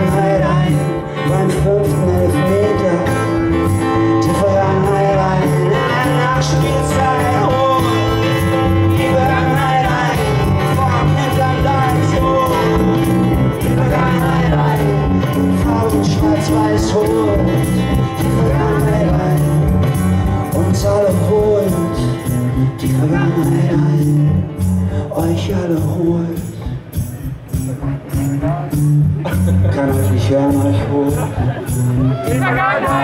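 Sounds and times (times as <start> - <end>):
live band music: 0.0 - 33.0
man singing: 0.0 - 33.0.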